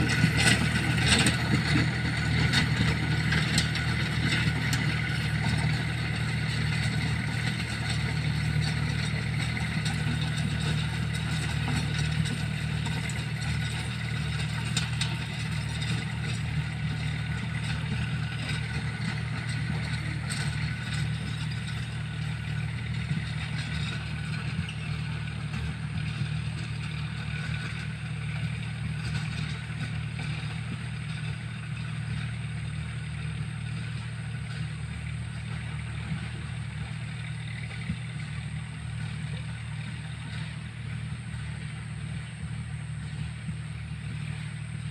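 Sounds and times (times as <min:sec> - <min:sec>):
light clatter: 0:00.0 - 0:44.9
tractor diesel engine running: 0:00.0 - 0:44.9.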